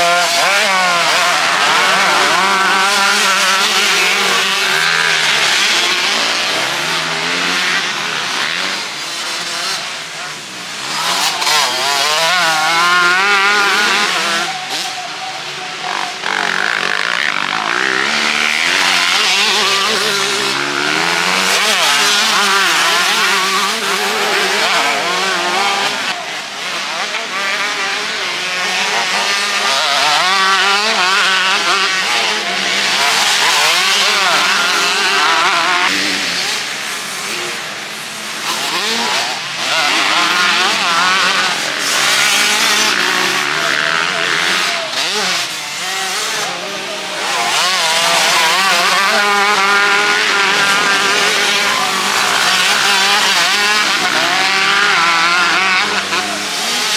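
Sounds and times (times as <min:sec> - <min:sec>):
motocross bikes revving: 0:00.0 - 0:56.9.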